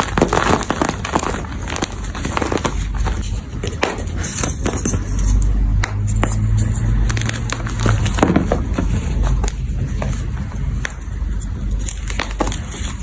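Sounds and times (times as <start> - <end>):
chalk crushing crackles: 0.0 - 13.0.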